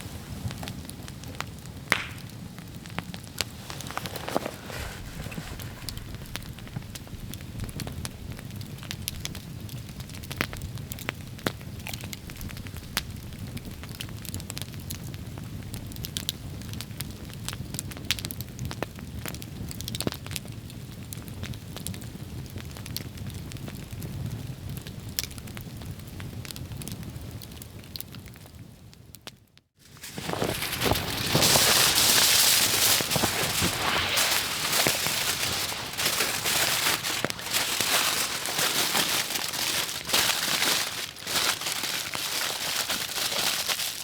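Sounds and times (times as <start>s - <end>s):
campfire crackling and popping: 0.0s - 26.9s, 29.8s - 44.0s.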